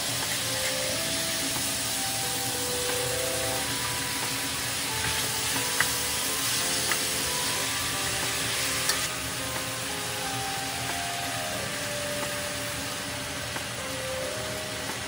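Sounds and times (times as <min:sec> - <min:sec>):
meat and onions sizzling: 0:00.0 - 0:15.0.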